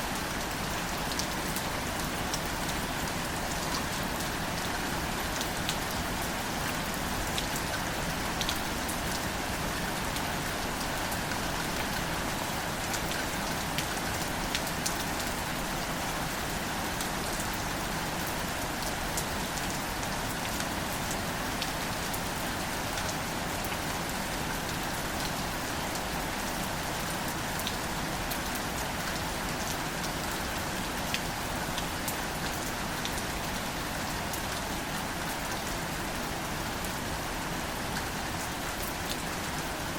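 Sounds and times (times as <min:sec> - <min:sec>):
gentle rain on plants: 0:00.0 - 0:39.9.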